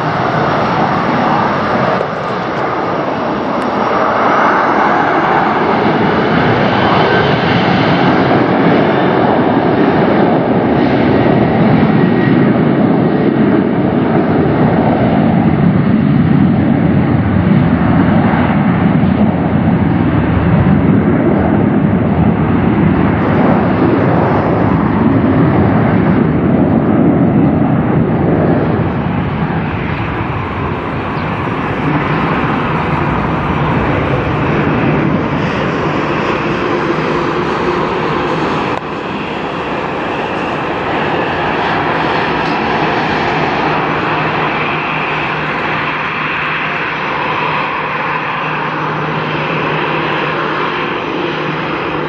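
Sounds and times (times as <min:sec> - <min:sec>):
jet engines roaring: 0:00.0 - 0:52.0.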